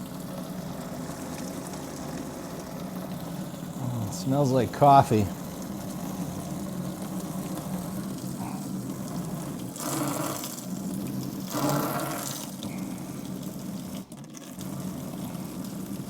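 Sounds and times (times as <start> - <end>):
liquid splashing into a bucket: 0.3 - 16.0.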